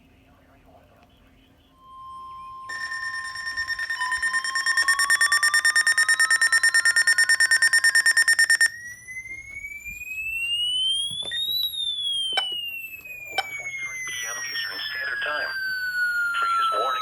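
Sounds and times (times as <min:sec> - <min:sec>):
steady beep tone: 0:01.8 - 0:09.4, 0:10.1 - 0:17.0
rapidly pulsing alarm: 0:01.8 - 0:17.0
siren-like rising tone: 0:01.8 - 0:17.0.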